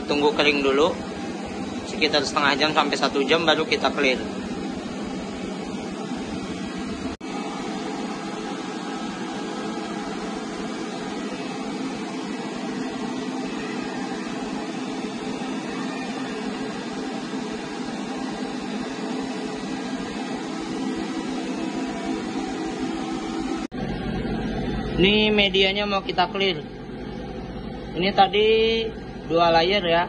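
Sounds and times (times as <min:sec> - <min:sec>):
machinery whirring: 0:00.0 - 0:30.0.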